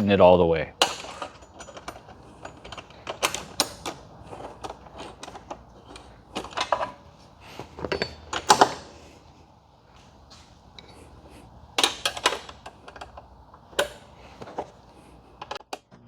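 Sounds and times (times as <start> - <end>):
metal tools clicking on bolts: 0.0 - 9.0, 10.8 - 15.6.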